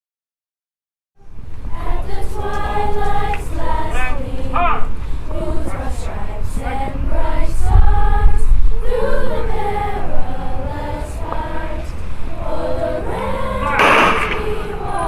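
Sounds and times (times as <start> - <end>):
choir singing: 1.2 - 15.0.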